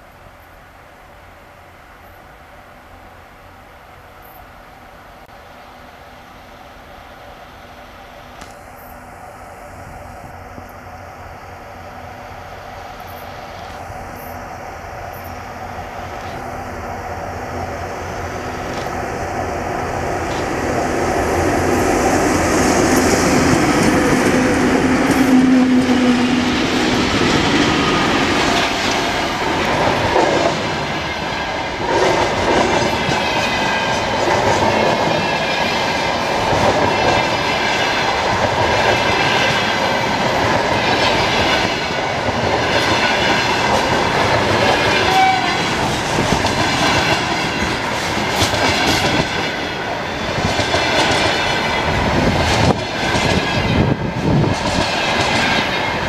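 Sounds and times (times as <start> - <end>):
electric locomotive passing: 0.0 - 56.0.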